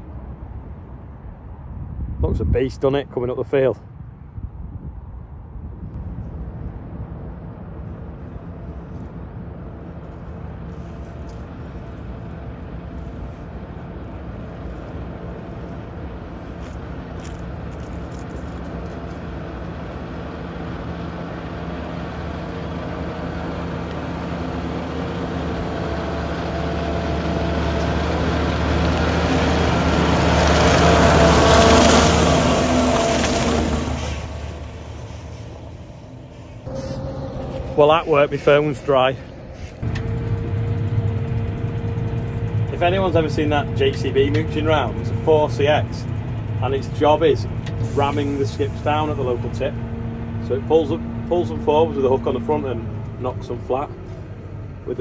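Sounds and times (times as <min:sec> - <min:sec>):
crop sprayer engine hum: 0:07.8 - 0:55.0.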